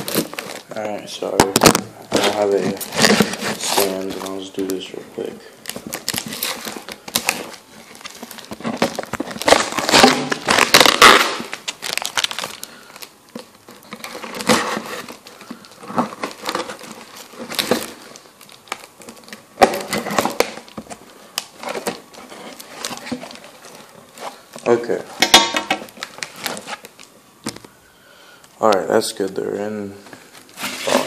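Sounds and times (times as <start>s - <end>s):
packaging tearing and crinkling: 0.0s - 27.6s.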